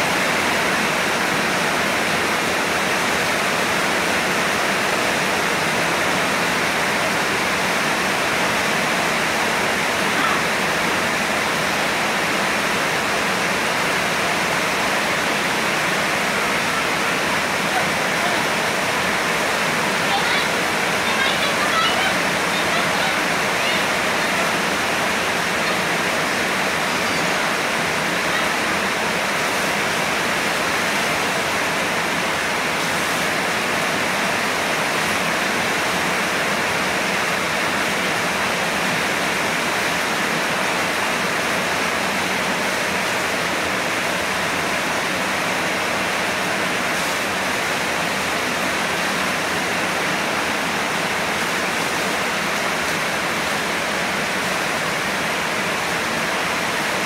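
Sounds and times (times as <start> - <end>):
shower water on tiled floor: 0.0 - 57.0.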